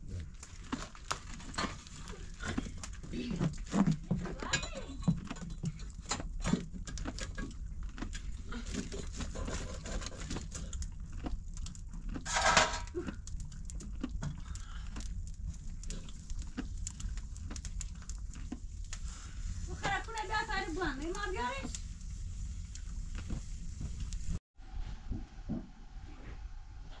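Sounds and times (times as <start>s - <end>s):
wood fire crackling: 0.0s - 24.4s.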